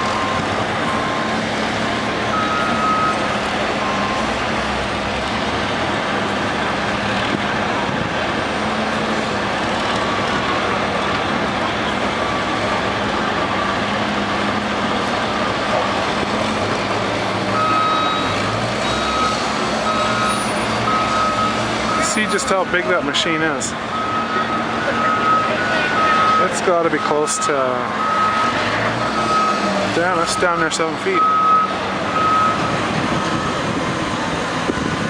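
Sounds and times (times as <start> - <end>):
diesel trucks running under load: 0.0 - 35.0
truck reversing alarm beeping: 0.0 - 35.0.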